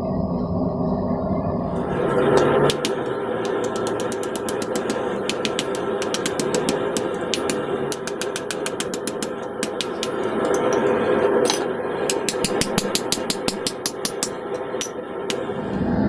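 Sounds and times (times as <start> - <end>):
steel tools clicking on steel: 2.4 - 15.5.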